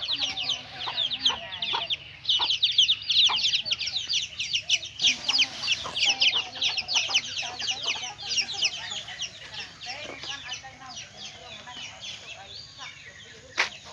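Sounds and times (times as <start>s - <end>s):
lower bird calls: 0.0s - 13.9s
small birds chirping: 0.0s - 13.9s.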